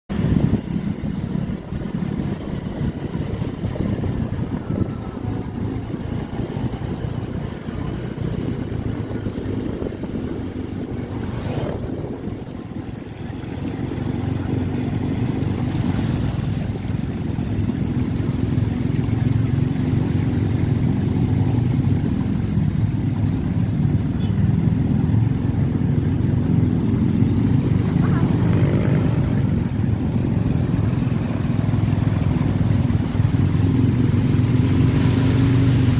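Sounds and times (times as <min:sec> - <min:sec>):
vehicle engine running: 0:00.1 - 0:35.9
water washing around vehicle: 0:00.1 - 0:35.9.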